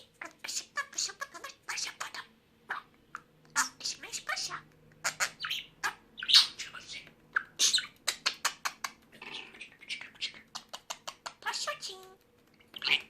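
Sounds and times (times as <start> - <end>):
pet bird chattering: 0.0 - 13.0.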